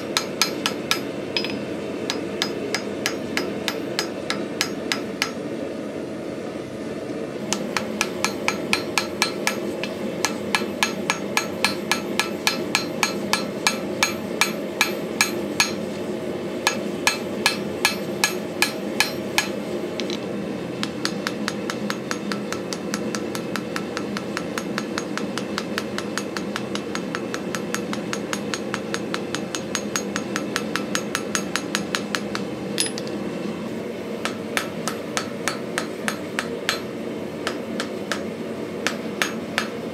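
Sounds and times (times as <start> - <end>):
hammer striking steel on anvil: 0.0 - 5.4, 7.5 - 15.8, 16.6 - 20.2, 20.8 - 33.2, 34.2 - 39.8.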